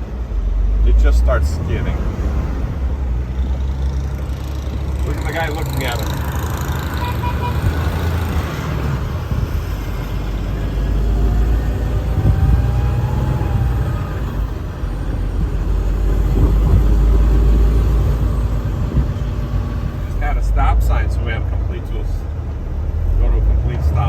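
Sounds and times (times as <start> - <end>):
truck engine and tyre rumble: 0.0 - 24.0.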